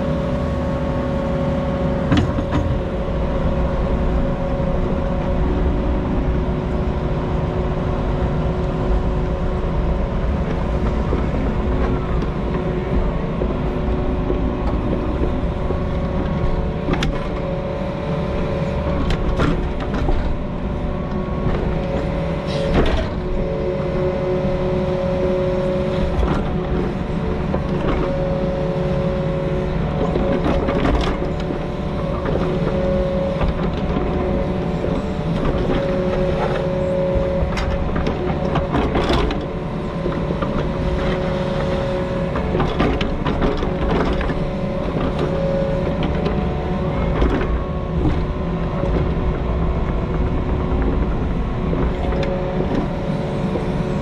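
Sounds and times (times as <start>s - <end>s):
diesel engine under load: 0.0s - 54.0s
mechanical whine: 0.0s - 54.0s.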